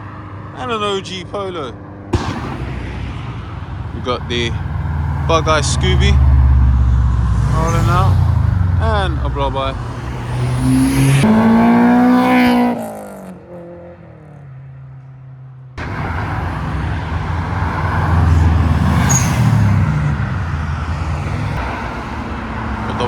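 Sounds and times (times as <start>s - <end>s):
car engine revving: 0.0s - 14.9s, 15.8s - 23.0s
car passing by: 2.2s - 15.0s, 15.8s - 23.0s.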